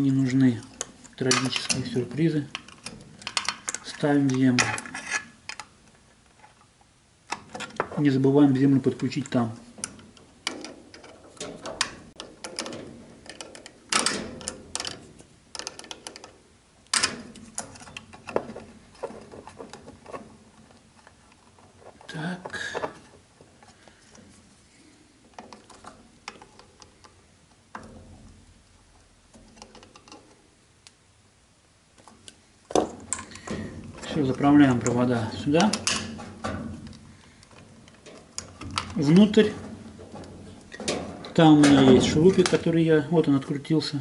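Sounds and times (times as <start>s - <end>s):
clicks and metal rattles: 0.0s - 31.0s, 31.9s - 43.3s.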